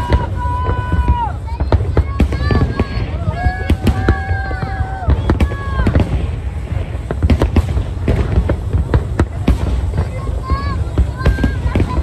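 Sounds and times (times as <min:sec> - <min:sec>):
fireworks bursting bangs: 0:00.0 - 0:12.0.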